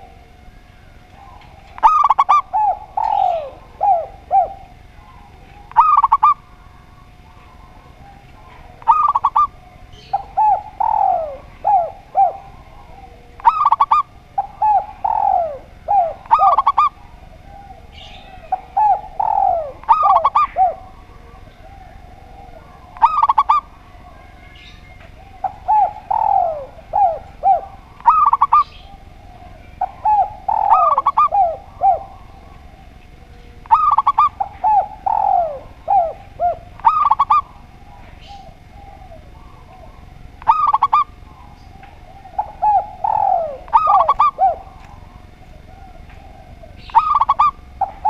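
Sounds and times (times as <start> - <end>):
doves cooing: 0.0 - 48.0.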